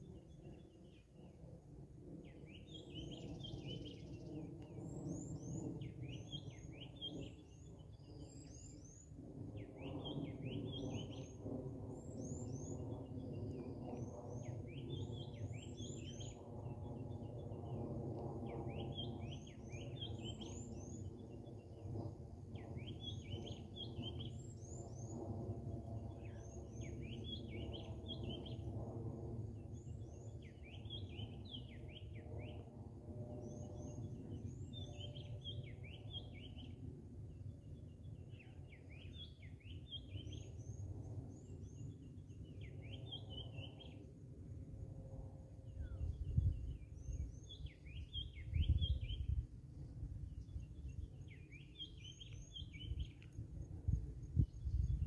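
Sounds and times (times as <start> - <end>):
songbird whistling song: 2.2 - 44.1, 45.0 - 49.4, 50.3 - 55.0.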